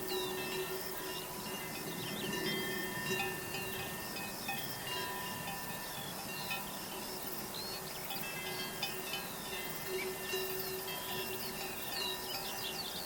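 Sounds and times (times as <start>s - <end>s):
ambient chime-like music: 0.0s - 13.0s.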